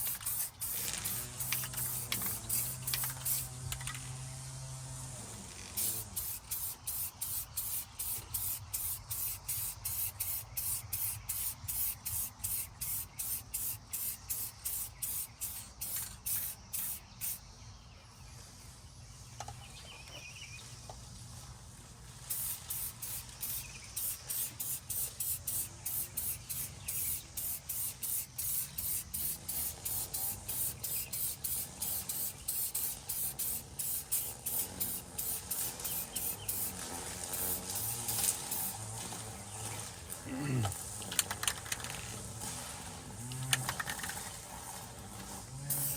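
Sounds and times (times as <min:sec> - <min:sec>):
spray paint can bursts: 0:00.0 - 0:04.3, 0:05.6 - 0:17.4, 0:22.2 - 0:45.9.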